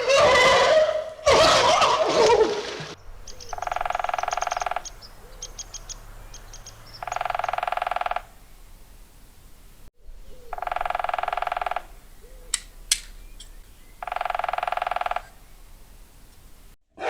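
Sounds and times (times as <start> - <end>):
woodpecker drumming: 2.9 - 16.8.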